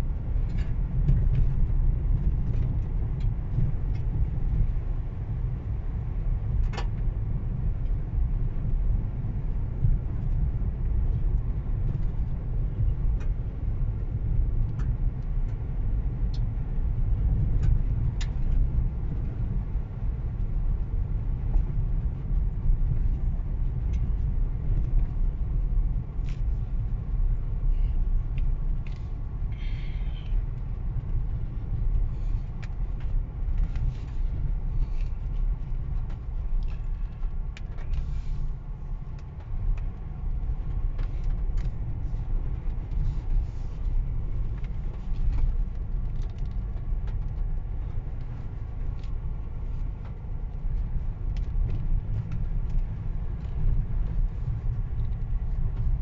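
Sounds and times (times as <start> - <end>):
vehicle cab rumble on dirt track: 0.0 - 56.0.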